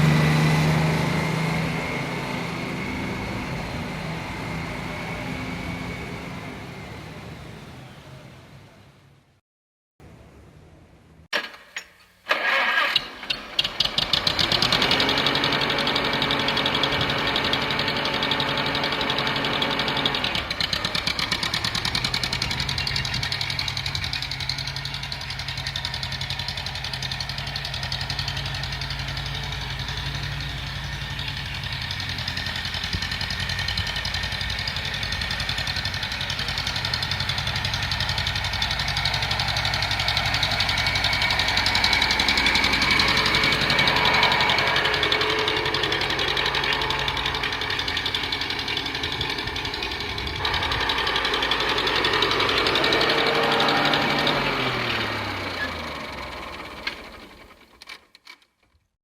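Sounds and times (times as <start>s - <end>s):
truck engine starting and idling: 0.0s - 9.4s, 10.4s - 58.8s.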